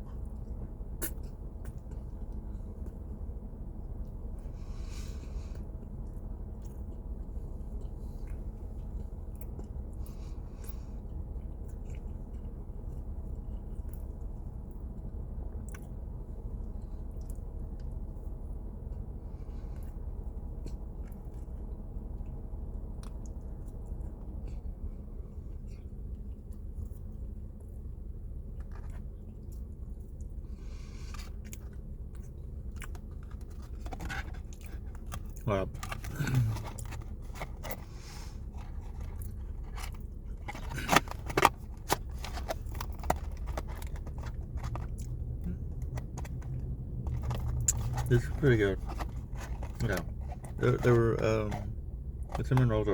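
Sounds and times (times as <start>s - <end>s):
steady low hum: 0.0s - 52.9s
close-up chewing: 4.0s - 52.5s.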